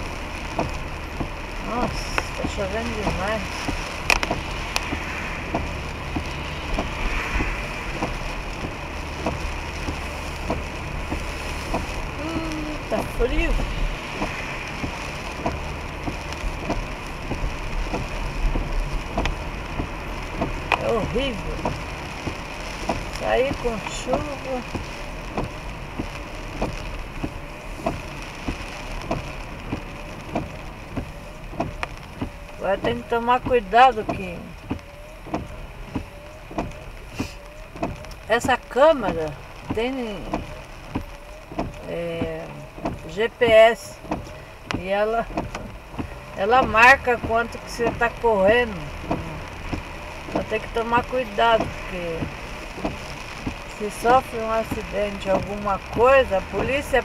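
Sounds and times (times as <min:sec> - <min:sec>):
low engine hum: 0:00.0 - 0:57.0
rain and tyres on wet road: 0:00.0 - 0:57.0
raindrops ticking on car roof: 0:00.0 - 0:57.0.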